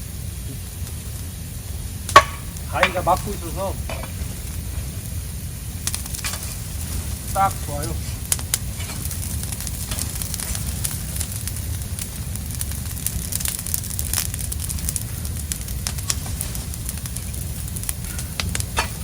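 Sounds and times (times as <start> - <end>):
bonfire crackling and popping: 0.0 - 19.0
low fire rumble: 0.0 - 19.0.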